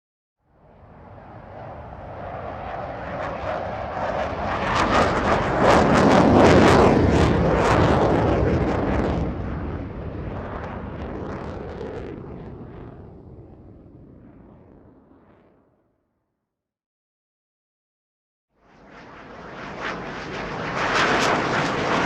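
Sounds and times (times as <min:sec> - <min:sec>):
airplane engine roar: 0:00.6 - 0:15.5, 0:18.6 - 0:22.0.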